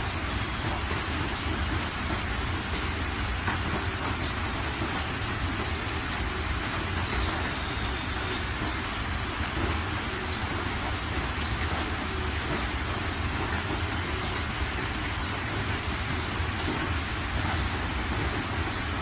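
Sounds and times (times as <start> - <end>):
water pouring through spillway: 0.0 - 19.0.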